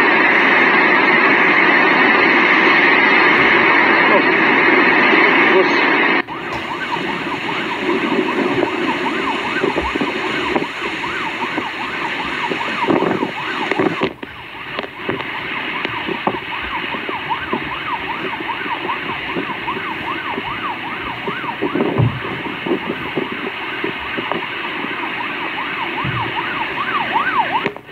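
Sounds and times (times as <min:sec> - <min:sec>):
electronic siren wailing: 0:00.0 - 0:27.9
rain: 0:00.0 - 0:27.9
storm wind: 0:00.0 - 0:27.9.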